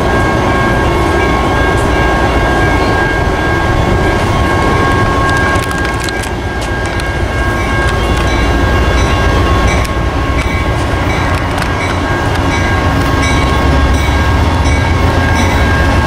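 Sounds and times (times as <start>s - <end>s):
diesel locomotive rumble and whine: 0.0s - 16.0s.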